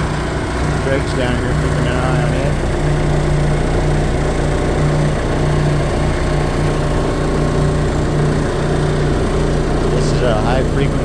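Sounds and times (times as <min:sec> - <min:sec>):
low machinery hum: 0:00.0 - 0:11.0
motors running: 0:00.0 - 0:11.0.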